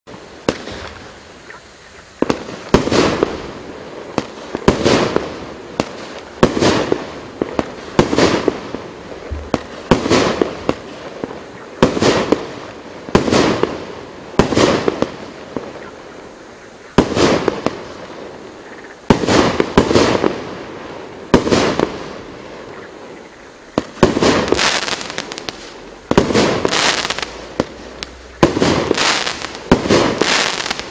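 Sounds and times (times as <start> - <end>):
firework shots sharp reports: 0.1 - 1.5, 2.2 - 16.1, 16.9 - 23.0, 23.7 - 30.9
crackling firework stars: 0.1 - 30.9.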